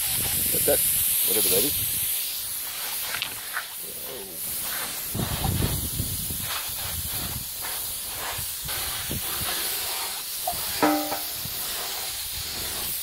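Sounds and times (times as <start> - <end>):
spray gun hissing: 0.0 - 13.0.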